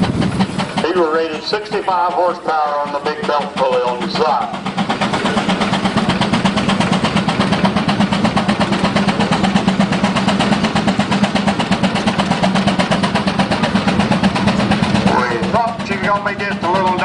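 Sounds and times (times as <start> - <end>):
steam engine exhaust chuffing: 0.0 - 17.0.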